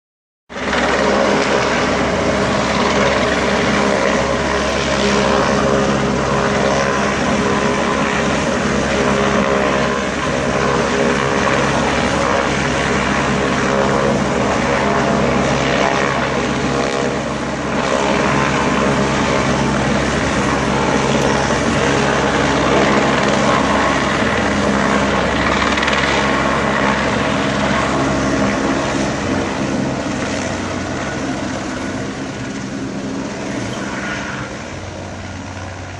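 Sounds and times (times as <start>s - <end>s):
helicopter flying overhead: 0.5s - 35.9s.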